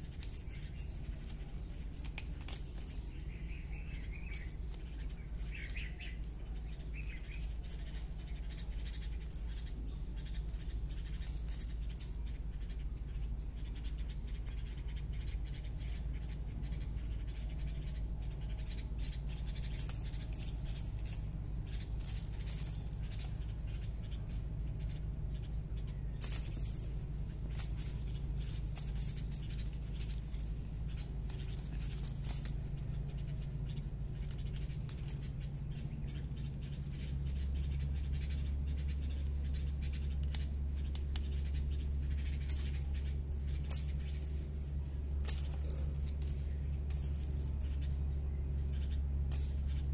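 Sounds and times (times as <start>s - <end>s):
spring wire toy rattling: 0.0s - 14.9s, 19.0s - 47.9s, 49.1s - 49.9s.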